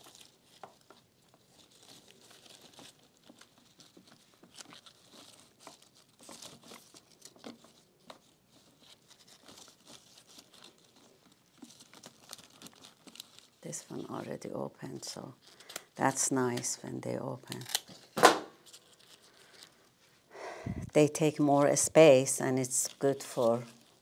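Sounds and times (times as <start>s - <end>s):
rustling and crinkling of flowers: 0.0s - 24.0s.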